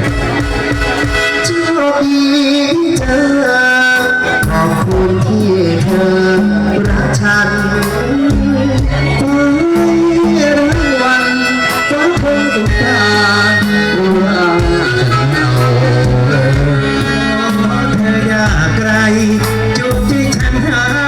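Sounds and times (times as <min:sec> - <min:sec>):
live band music: 0:00.0 - 0:21.0
person singing love song: 0:00.0 - 0:21.0.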